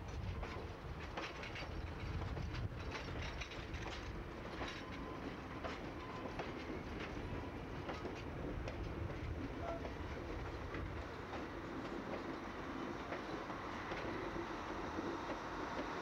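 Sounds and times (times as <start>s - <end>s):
train rumbling past: 0.0s - 16.0s
train wheels clicking over rail joints: 0.0s - 16.0s.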